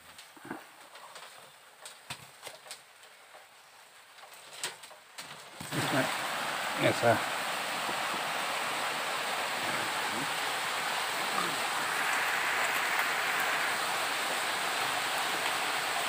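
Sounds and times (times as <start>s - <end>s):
steady hiss of water: 0.0s - 16.0s.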